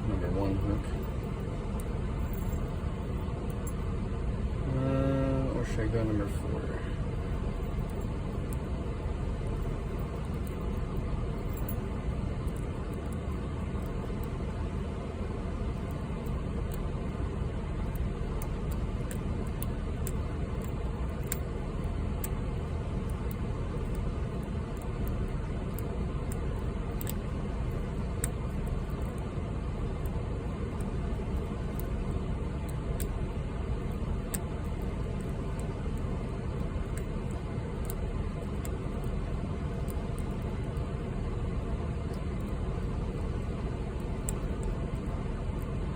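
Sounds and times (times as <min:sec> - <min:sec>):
air conditioner running: 0:00.0 - 0:45.9.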